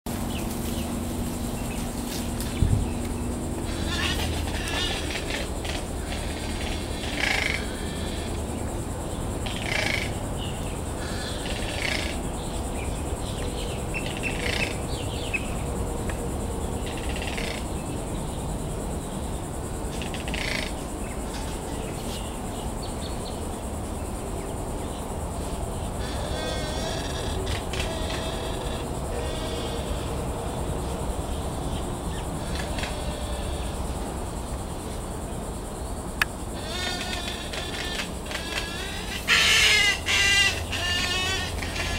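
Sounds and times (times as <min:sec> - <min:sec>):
birds calling: 0:00.1 - 0:15.8, 0:16.6 - 0:18.6, 0:19.2 - 0:34.2, 0:36.2 - 0:41.9
steady background noise: 0:00.1 - 0:41.9.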